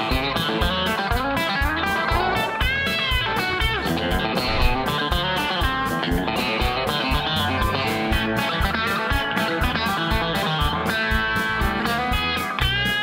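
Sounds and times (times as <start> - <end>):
country electric guitar: 0.0 - 13.0
steady beat: 0.0 - 13.0.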